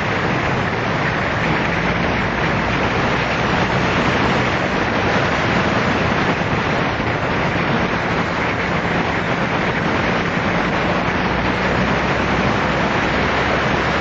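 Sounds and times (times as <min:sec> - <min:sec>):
motorcycle engine hum: 0:00.0 - 0:14.0
wind rushing over microphone: 0:00.0 - 0:14.0.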